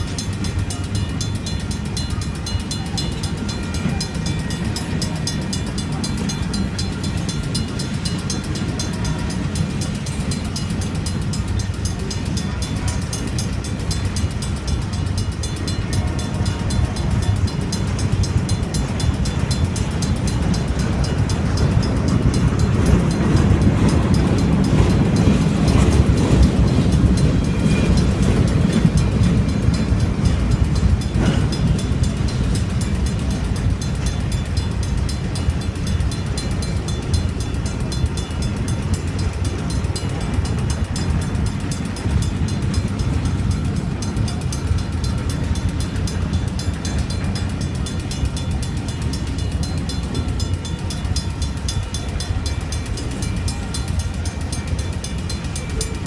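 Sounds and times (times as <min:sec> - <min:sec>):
crossing bell ringing: 0:00.0 - 0:56.0
train wheels clattering on rails: 0:00.0 - 0:56.0.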